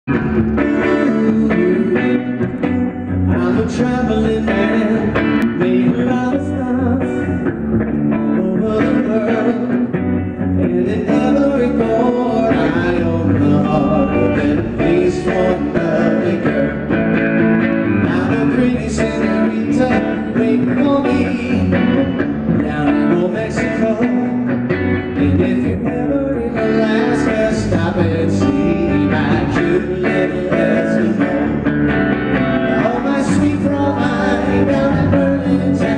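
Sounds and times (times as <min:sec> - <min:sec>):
electric bass: 0:00.0 - 0:35.9
electric guitar: 0:00.0 - 0:35.9
man singing: 0:00.1 - 0:07.5, 0:08.1 - 0:35.9.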